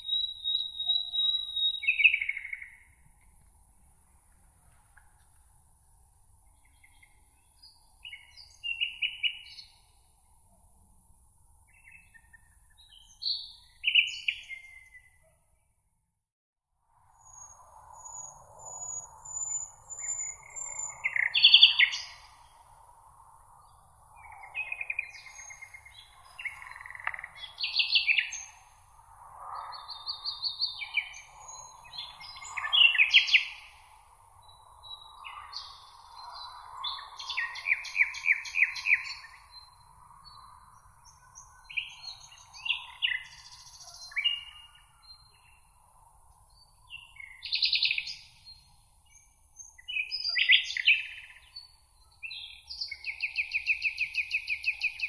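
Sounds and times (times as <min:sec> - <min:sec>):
songbirds chirping and trilling: 0:00.0 - 0:03.4, 0:06.3 - 0:15.8, 0:17.2 - 0:55.0.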